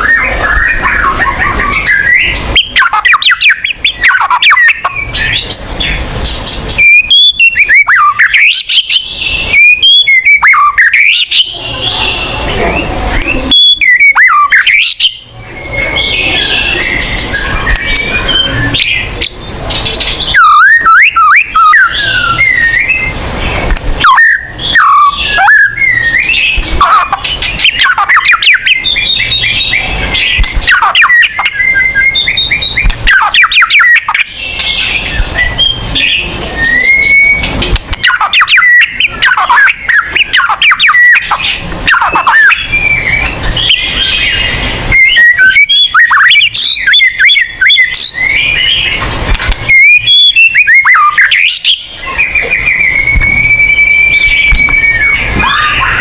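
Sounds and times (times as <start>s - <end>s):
songbird whistled song: 0.0s - 56.0s.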